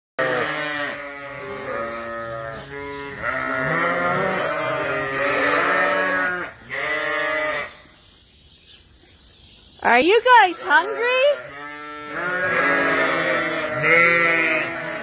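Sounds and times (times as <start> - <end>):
sheep bleating: 0.2 - 7.8, 10.4 - 15.0.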